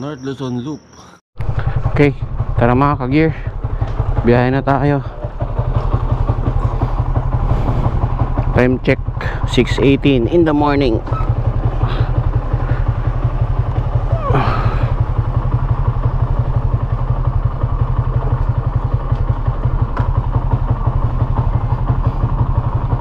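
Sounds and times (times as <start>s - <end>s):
motorcycle engine idling: 1.4s - 23.0s.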